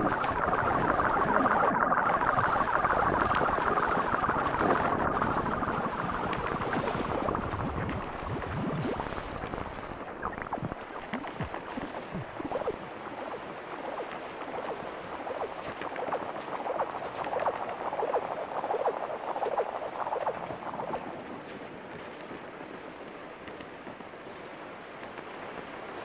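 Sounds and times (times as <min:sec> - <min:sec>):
lo-fi ambient electronic music: 0:00.0 - 0:21.8
crackles and chirping flicks: 0:00.0 - 0:26.0.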